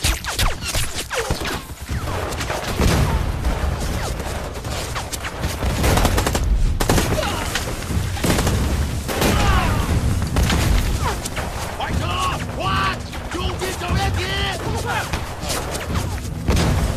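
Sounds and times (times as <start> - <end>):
rifle and machine-gun fire: 1.3 - 16.9.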